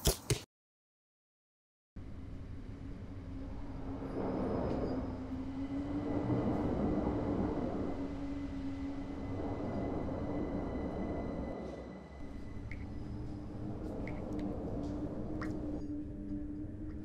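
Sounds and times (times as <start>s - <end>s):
low rumble with droning hum: 2.0s - 17.0s.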